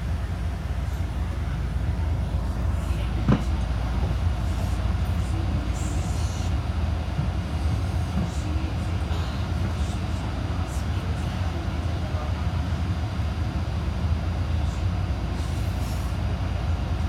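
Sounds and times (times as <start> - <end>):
tram interior hum: 0.0 - 17.0.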